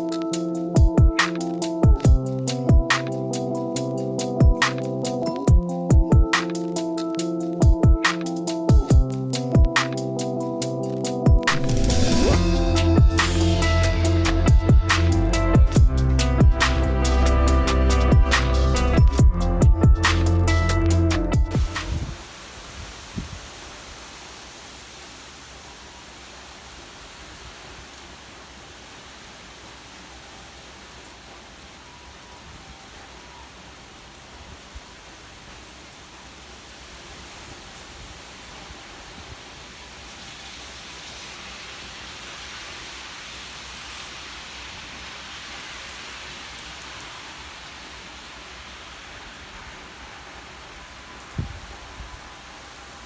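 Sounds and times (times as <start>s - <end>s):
steady heavy rain: 0.0s - 53.0s.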